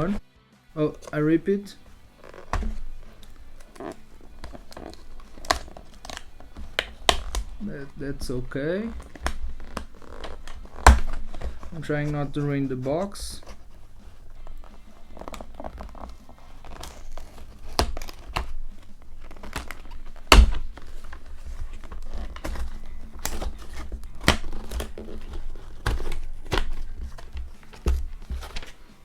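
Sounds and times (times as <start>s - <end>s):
cardboard box being torn: 0.8s - 29.0s
paper crinkling: 0.8s - 29.0s
taps and knocks: 1.8s - 7.7s, 8.8s - 28.9s.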